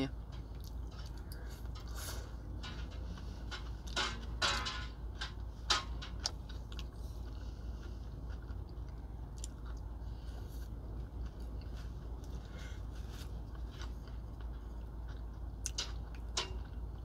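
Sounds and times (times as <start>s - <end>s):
steady low hum: 0.0s - 17.0s
person chewing: 0.2s - 4.0s, 5.2s - 17.0s.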